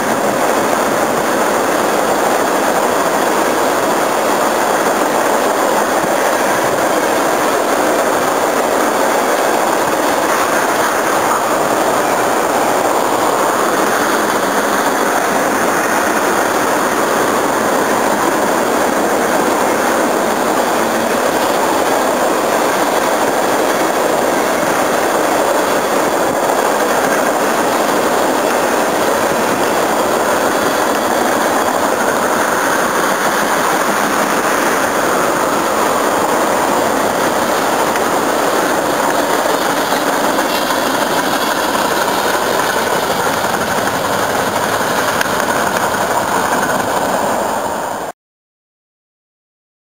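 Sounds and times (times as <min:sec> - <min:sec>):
train wheels on rails: 0:00.0 - 0:48.1.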